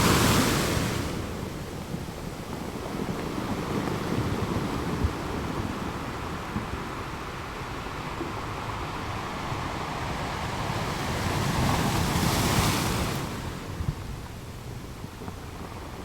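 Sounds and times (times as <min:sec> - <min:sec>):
sea surf washing: 0:00.0 - 0:16.0.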